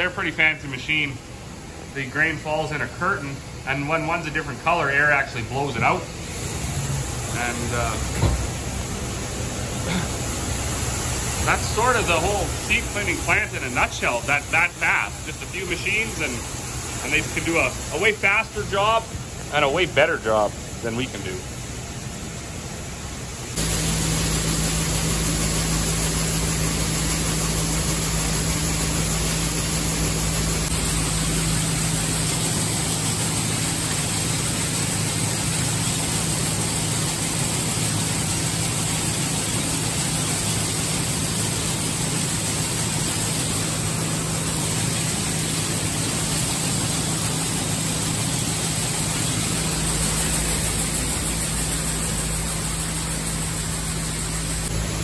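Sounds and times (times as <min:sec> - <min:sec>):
machinery running: 0:01.8 - 0:21.9, 0:22.8 - 0:55.0.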